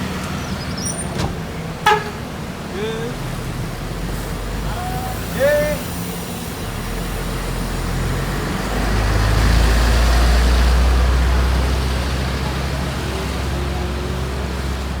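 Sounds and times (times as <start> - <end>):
bus engine rumbling: 0.0 - 15.0
outdoor hubbub of vehicles: 0.0 - 15.0.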